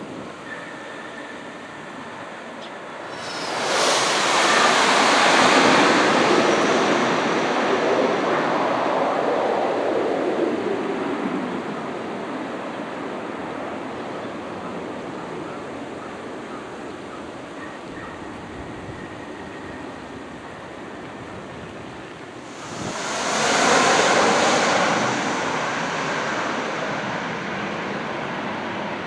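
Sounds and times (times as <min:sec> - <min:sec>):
jet engines roaring: 0:00.1 - 0:17.6, 0:18.2 - 0:29.0.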